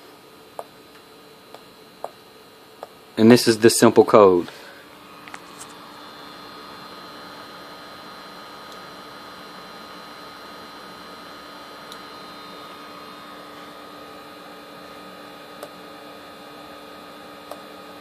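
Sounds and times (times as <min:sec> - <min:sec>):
electrical hum with high whine: 0:00.0 - 0:18.0.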